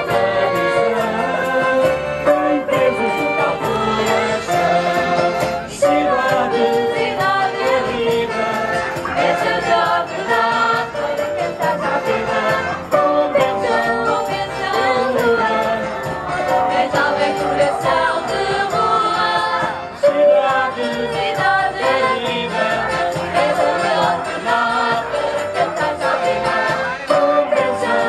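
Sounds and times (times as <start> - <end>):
vocal group singing: 0.0 - 28.0.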